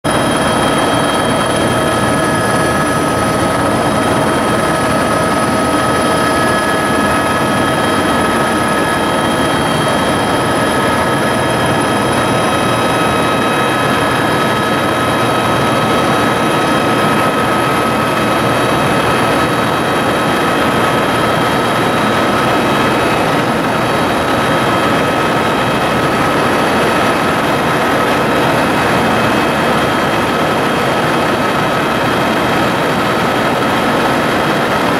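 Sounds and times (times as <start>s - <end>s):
helicopter rotor and engine din: 0.0s - 34.9s.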